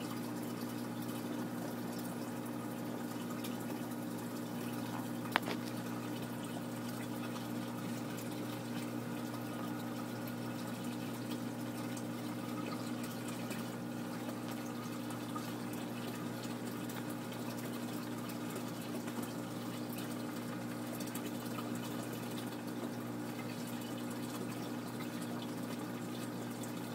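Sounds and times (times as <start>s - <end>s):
circulating water rushing: 0.0s - 26.9s
low pump hum: 0.0s - 26.9s.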